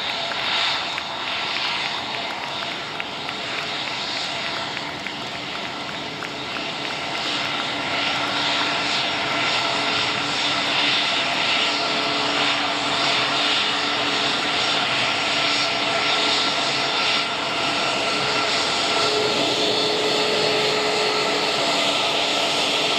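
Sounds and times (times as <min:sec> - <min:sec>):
jet engines whining: 0:00.0 - 0:22.9.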